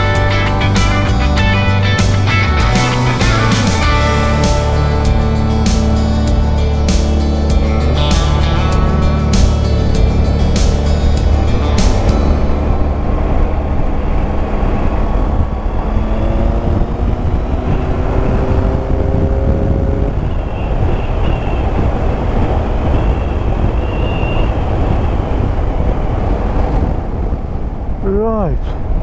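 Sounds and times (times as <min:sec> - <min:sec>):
motorcycle engine accelerating: 0:00.0 - 0:27.5
wind rush over microphone: 0:02.3 - 0:29.0.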